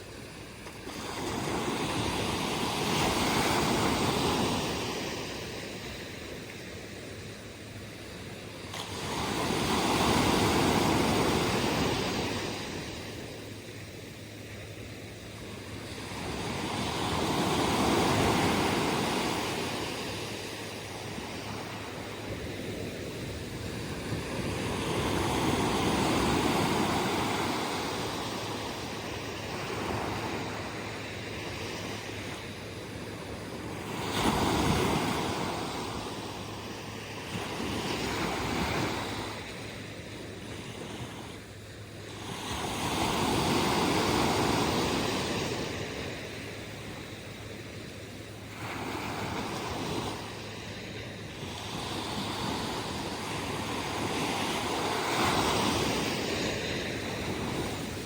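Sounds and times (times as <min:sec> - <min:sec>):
waves breaking on a beach: 0:00.0 - 0:58.0.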